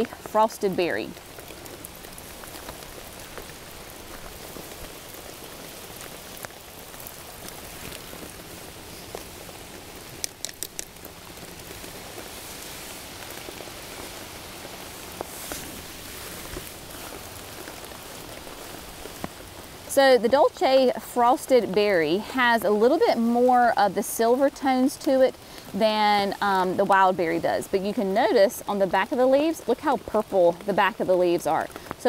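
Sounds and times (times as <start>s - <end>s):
pouring rain: 0.0s - 32.0s.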